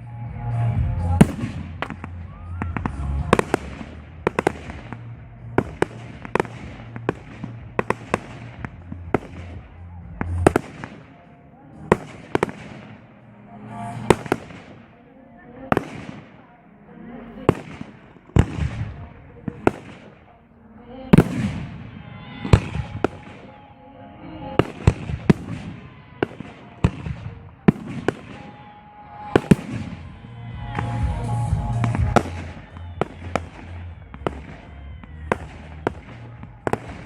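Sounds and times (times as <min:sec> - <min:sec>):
fireworks crackling: 0:00.0 - 0:37.0
music: 0:00.0 - 0:37.0.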